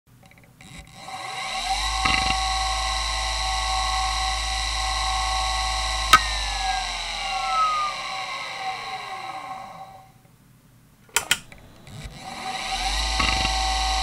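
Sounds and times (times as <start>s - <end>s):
hard drive whine: 0.6s - 10.3s, 11.4s - 14.0s.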